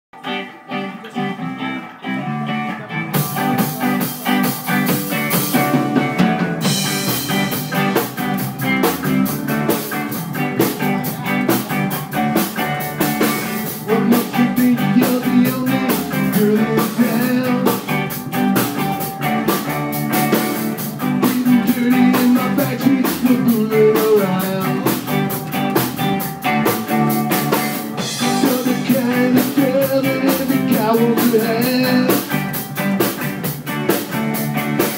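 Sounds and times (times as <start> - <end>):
rockabilly band playing live: 0.2 - 34.9.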